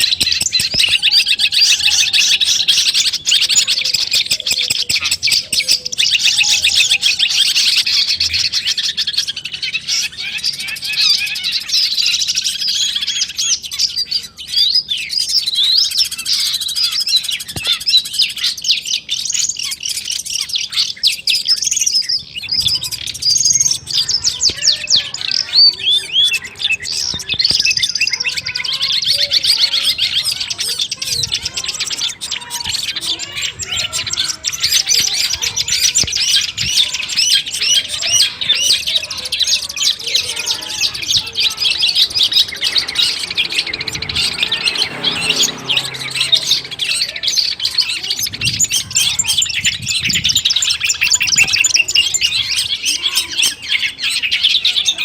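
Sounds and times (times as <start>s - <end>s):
bird chattering song: 0.0s - 55.0s.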